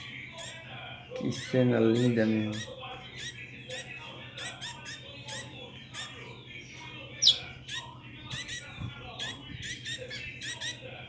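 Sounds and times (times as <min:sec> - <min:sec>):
fledgling finches chirping: 0:01.2 - 0:11.0.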